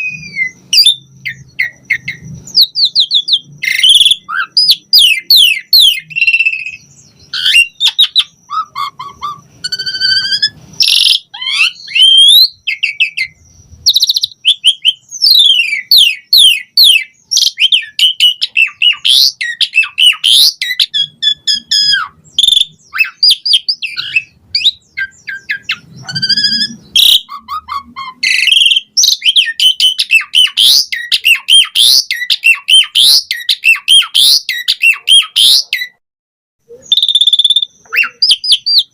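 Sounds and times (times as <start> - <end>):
starling singing: 0.0 - 36.0, 36.7 - 38.9.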